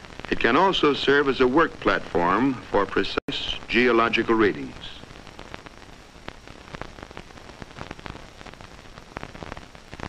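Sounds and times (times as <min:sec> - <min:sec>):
crackles and pops: 0:00.0 - 0:10.0
film soundtrack hiss: 0:00.0 - 0:10.0.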